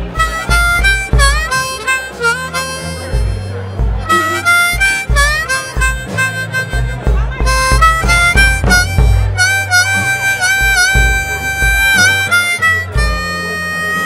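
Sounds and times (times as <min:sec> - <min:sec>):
amplified blues harmonica: 0:00.0 - 0:14.0
bass guitar: 0:00.0 - 0:14.0.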